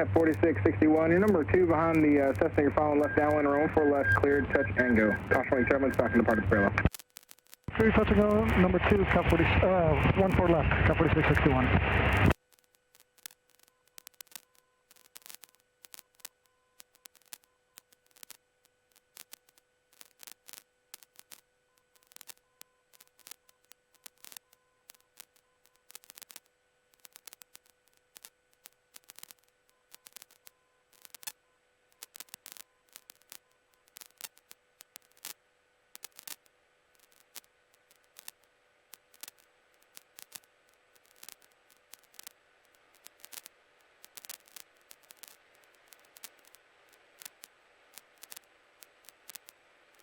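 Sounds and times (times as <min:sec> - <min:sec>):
faint electrical hum: 0:00.0 - 0:50.0
static clicks: 0:00.0 - 0:50.0.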